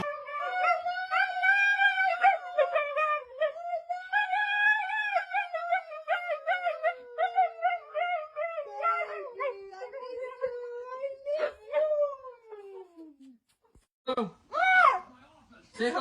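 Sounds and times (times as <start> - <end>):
dog howling: 0.0 - 13.2.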